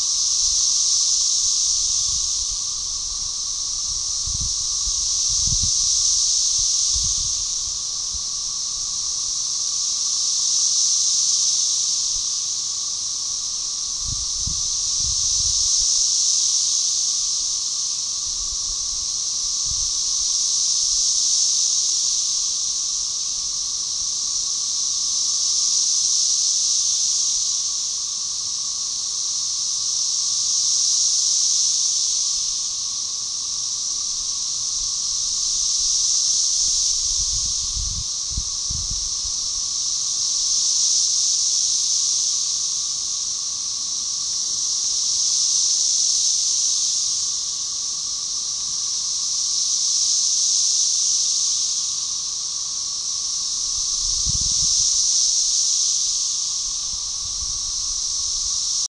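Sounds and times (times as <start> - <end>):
chorus of cicadas buzzing: 0.0 - 58.9
low cicada drone: 0.0 - 58.9.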